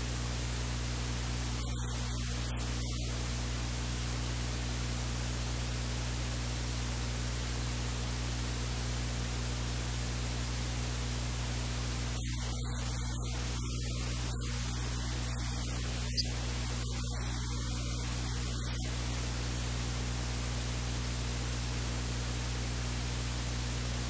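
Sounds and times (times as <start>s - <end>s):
steady loud hiss: 0.0s - 6.4s, 10.4s - 24.0s
low electrical hum: 0.0s - 24.0s.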